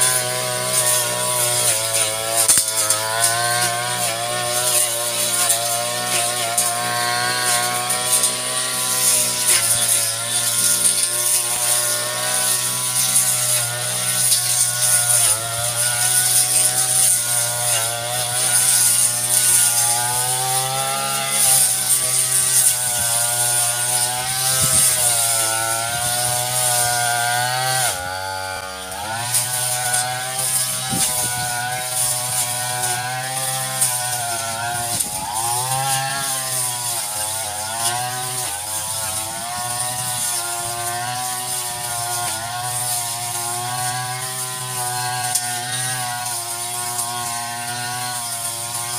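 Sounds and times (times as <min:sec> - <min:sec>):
brush cutter engine cutting grass: 0:00.0 - 0:48.9.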